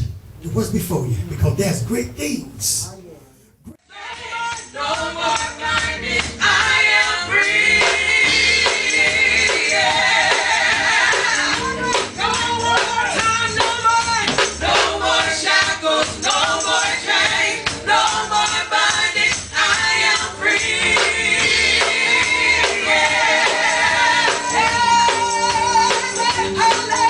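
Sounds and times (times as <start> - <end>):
gospel singing: 3.8 - 27.0.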